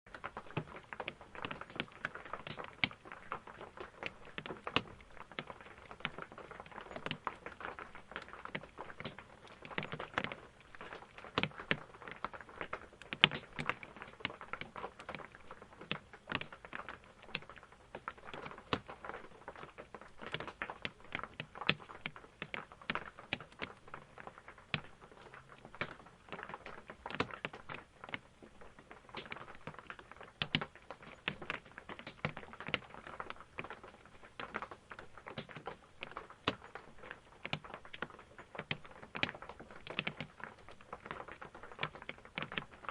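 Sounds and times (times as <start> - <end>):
rain drops tapping on roof: 0.1 - 42.9.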